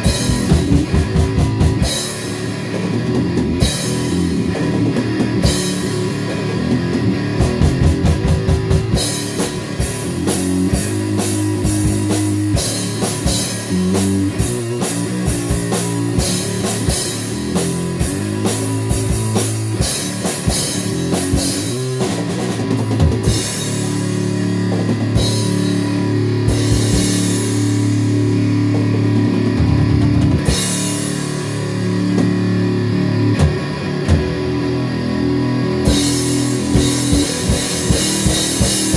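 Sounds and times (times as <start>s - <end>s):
rock music: 0.0s - 38.9s.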